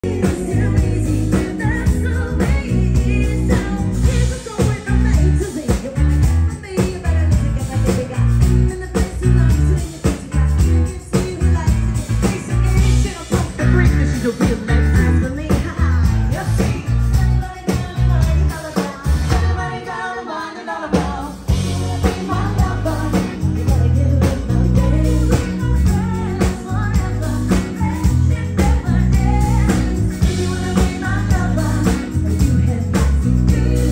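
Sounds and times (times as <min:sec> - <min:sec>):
bass guitar: 0:00.0 - 0:19.8, 0:21.0 - 0:33.9
drums: 0:00.0 - 0:33.9
keyboard: 0:00.0 - 0:33.9
woman singing: 0:00.0 - 0:33.9.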